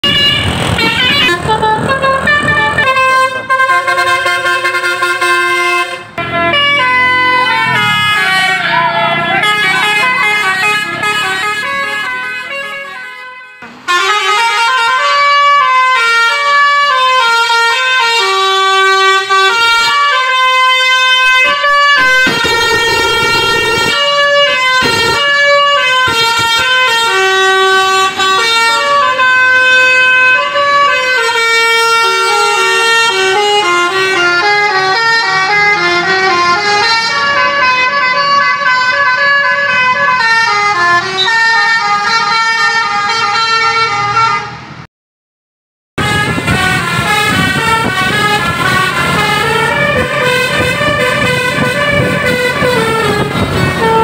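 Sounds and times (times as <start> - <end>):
reedy horn-like tune: 0.0 - 44.7, 46.0 - 54.0.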